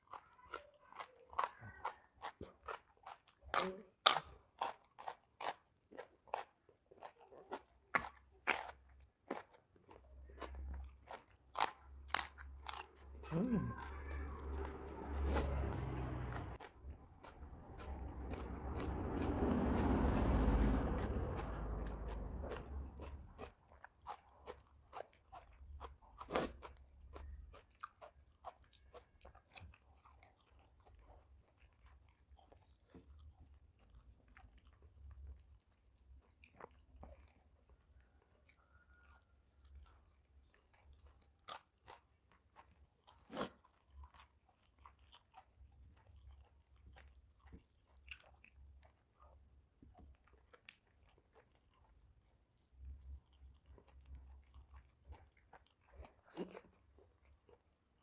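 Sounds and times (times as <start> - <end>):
person chewing crisp food: 0.0 - 58.0.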